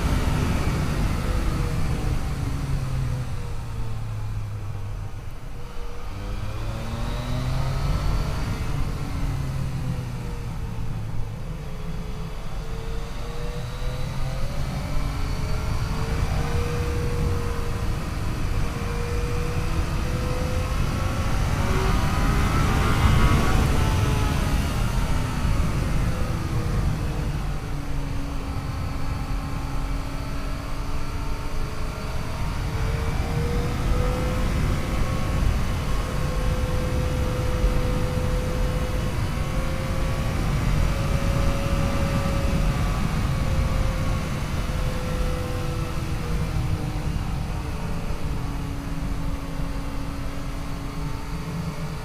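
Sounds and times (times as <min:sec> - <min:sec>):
motorcycle engine running: 0:00.0 - 0:52.0
wind rush on microphone: 0:00.0 - 0:52.0.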